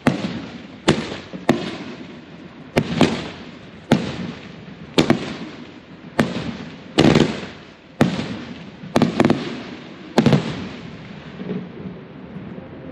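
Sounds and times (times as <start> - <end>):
firework bangs with crackle: 0.0 - 12.0.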